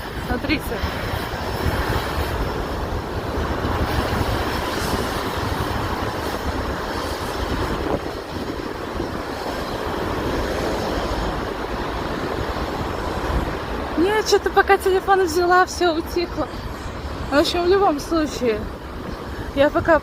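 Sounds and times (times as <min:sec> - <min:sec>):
passing traffic rumble: 0:00.0 - 0:20.0
wind buffeting microphone: 0:00.0 - 0:20.0.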